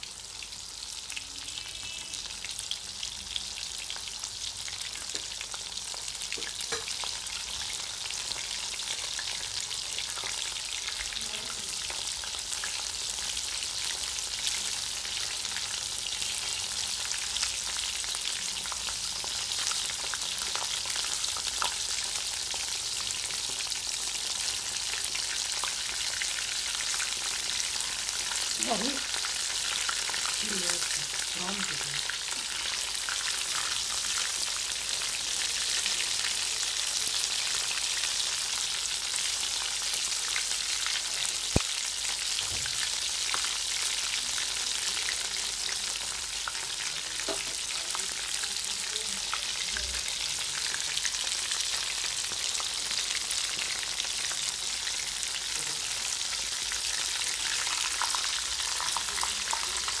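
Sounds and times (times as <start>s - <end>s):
fish frying in hot oil: 0.0s - 60.0s.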